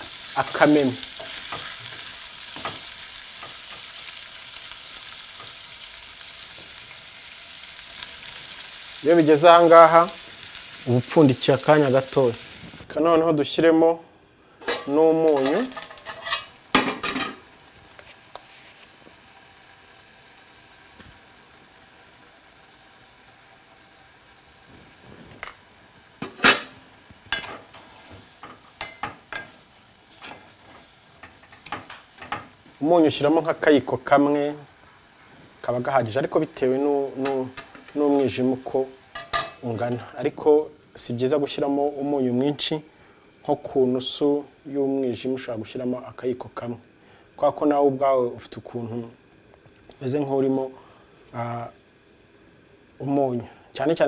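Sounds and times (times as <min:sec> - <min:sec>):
liver sizzling in oil: 0:00.0 - 0:54.0.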